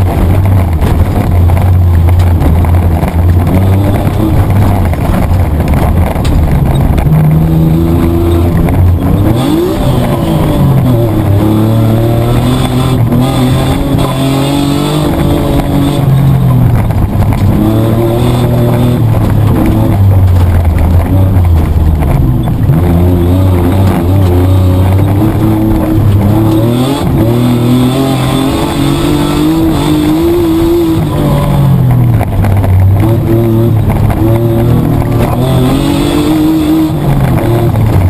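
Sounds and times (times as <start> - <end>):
car engine under load: 0.0 - 38.0
tyre and chassis rumble: 0.0 - 38.0.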